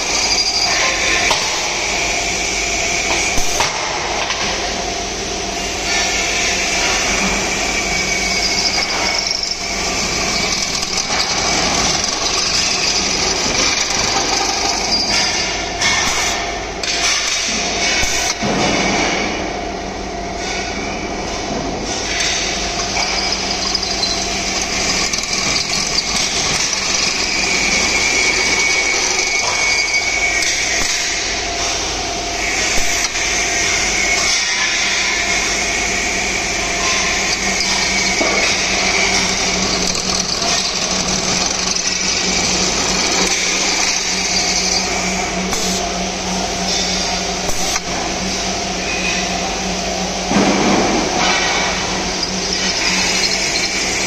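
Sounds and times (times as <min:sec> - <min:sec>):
drilling machine hum and whine: 0:00.0 - 0:54.0.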